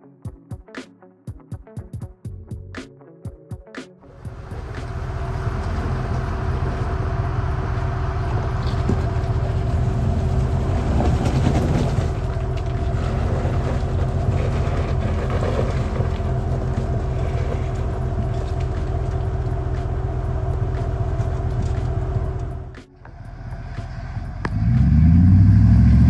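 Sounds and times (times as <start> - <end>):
vehicle engine rumbling: 4.1 - 26.0.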